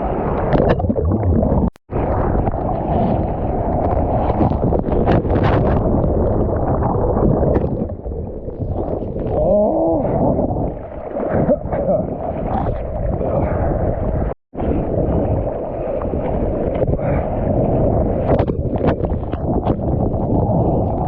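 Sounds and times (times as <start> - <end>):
rushing water: 0.0 - 21.0
wind noise: 0.0 - 21.0.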